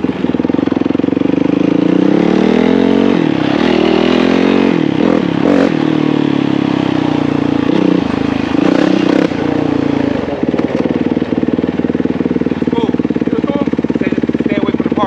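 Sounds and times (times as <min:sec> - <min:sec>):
dirt bike engine revving and idling: 0:00.0 - 0:15.0.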